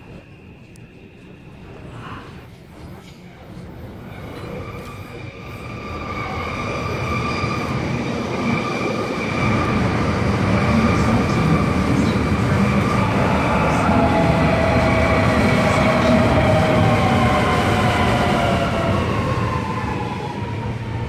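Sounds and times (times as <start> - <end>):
train running past: 0.0 - 21.0.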